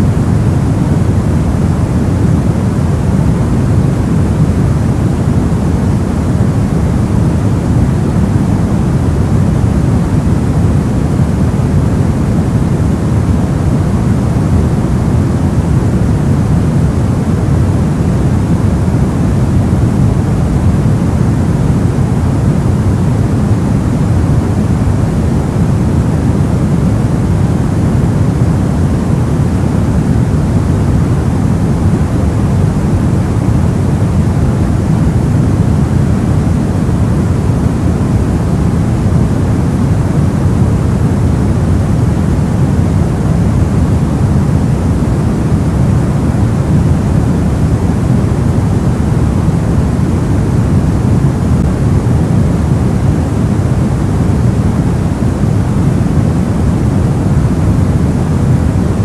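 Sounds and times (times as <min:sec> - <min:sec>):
low white noise hiss: 0:00.0 - 0:59.0.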